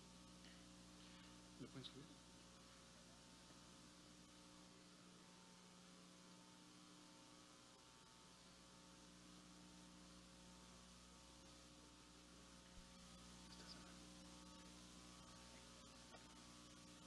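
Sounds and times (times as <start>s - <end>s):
faint mains hum with hiss: 0.0s - 17.0s.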